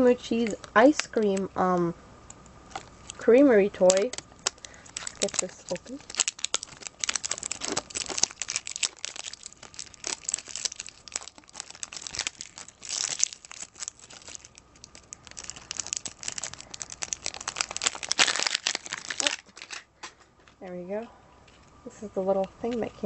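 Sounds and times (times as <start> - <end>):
plastic packaging crinkling: 0.0 - 1.8, 2.7 - 20.2.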